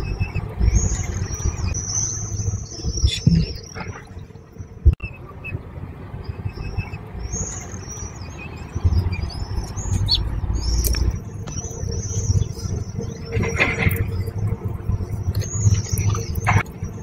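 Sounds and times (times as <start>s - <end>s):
chicks cheeping: 0.0s - 3.8s, 6.2s - 17.0s
low rumble: 0.0s - 17.0s.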